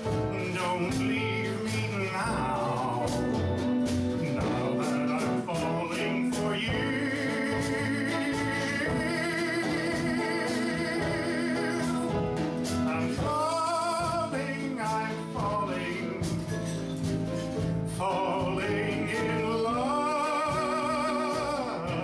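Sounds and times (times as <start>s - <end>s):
instrumental accompaniment: 0.0s - 22.0s
man singing: 0.0s - 22.0s.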